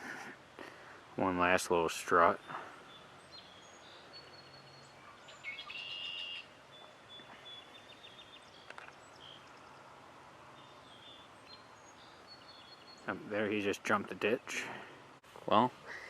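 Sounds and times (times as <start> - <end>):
faint outdoor background: 0.0 - 16.0
songbirds singing: 0.7 - 16.0.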